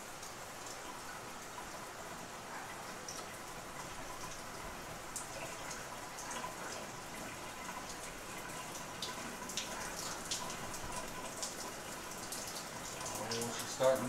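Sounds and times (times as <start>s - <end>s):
shower water pattering: 0.0s - 14.0s.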